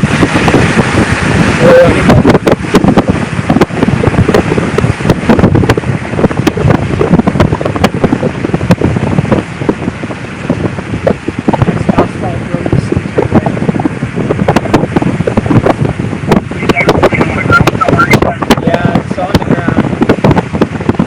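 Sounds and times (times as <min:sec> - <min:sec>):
rain hitting car: 0:00.0 - 0:21.0
road and wind noise in car: 0:00.0 - 0:21.0.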